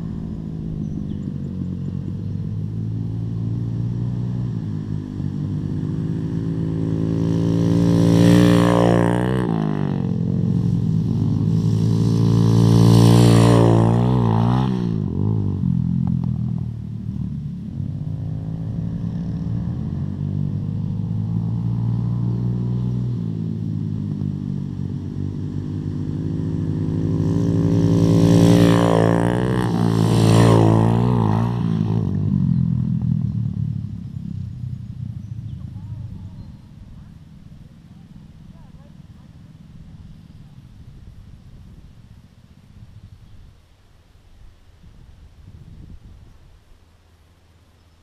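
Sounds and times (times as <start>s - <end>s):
mini bike engines revving: 0.0s - 41.0s.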